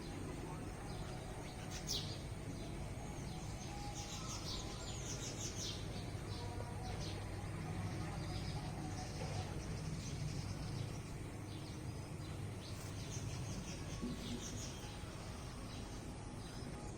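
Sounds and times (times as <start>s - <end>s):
low background hum: 0.0s - 16.9s
sparrows chirping: 0.0s - 16.9s.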